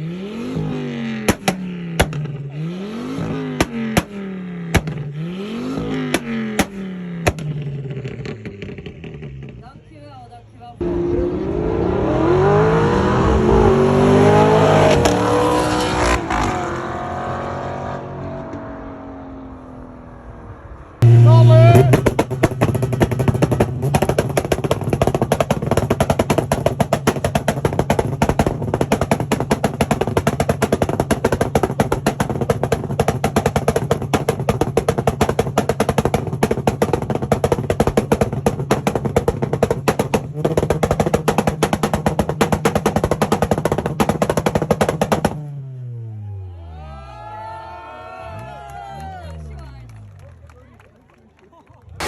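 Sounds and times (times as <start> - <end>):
car engine on rev limiter: 0.0 - 9.6, 10.8 - 46.8.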